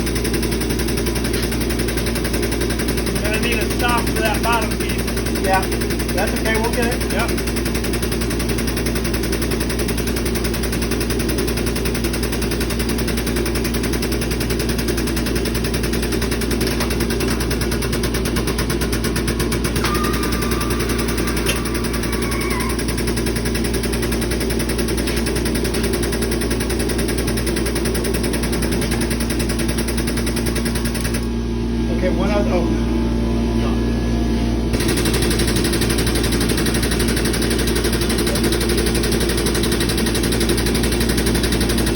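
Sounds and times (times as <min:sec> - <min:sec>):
pneumatic pump chattering: 0:00.0 - 0:31.3, 0:34.8 - 0:41.9.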